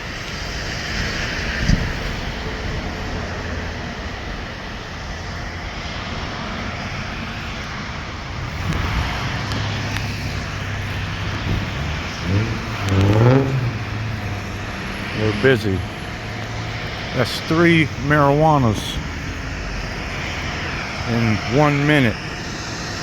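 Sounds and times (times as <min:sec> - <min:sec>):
outdoor traffic noise: 0:00.0 - 0:23.0
vehicle engine drone: 0:00.0 - 0:23.0.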